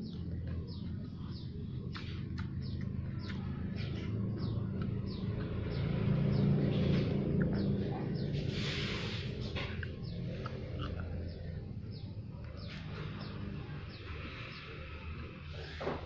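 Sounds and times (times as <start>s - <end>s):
bird chirping: 0.0s - 15.8s.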